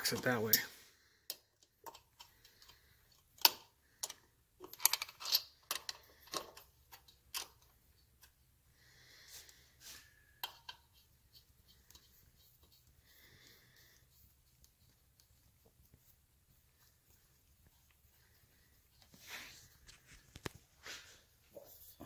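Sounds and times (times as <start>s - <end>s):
rubbing and handling sounds: 0.0s - 22.0s.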